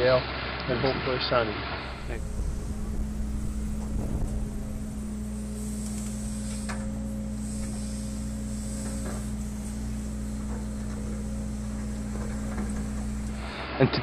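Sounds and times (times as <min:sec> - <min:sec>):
excavator engine humming: 0:01.6 - 0:13.8.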